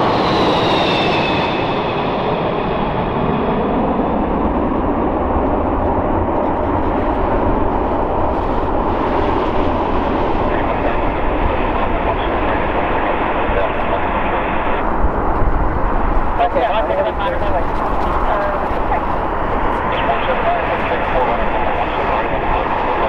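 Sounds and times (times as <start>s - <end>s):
jet airliner rumbling overhead: 0.0s - 23.0s.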